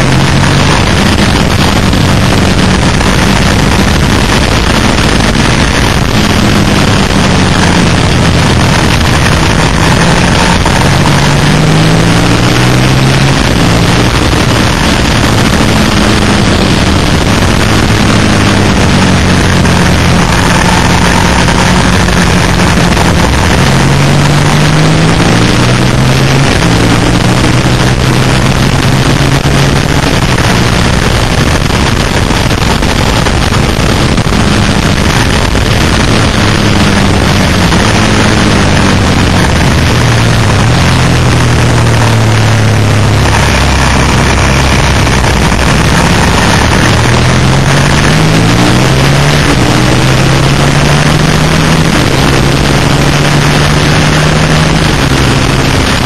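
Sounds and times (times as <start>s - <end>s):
motorcycle engine running hard: 0.0s - 56.0s
wind rush: 0.0s - 56.0s.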